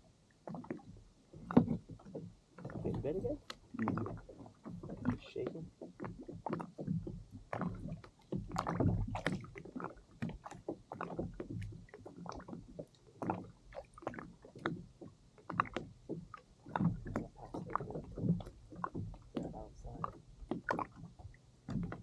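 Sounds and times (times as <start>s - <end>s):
waves slapping against kayak hull: 0.4s - 22.0s.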